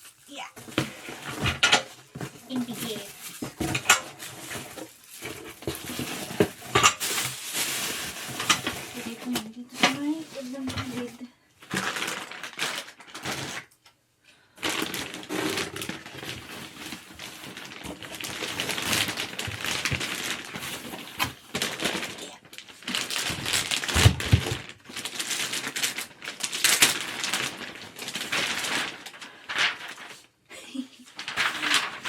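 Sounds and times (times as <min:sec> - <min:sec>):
packaging rustling and crinkling: 0:00.0 - 0:13.8, 0:14.6 - 0:32.0.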